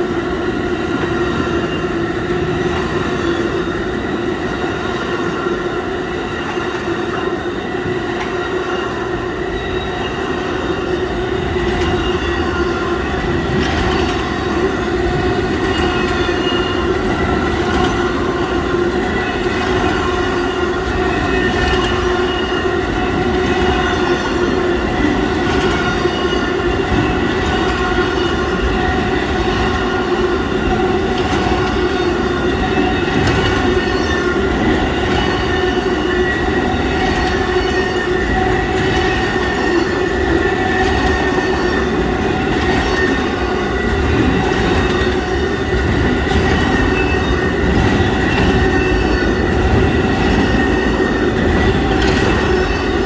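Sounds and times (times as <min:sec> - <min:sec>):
train cars rolling past: 0:00.0 - 0:53.0
wheels squealing on rails: 0:00.0 - 0:53.0.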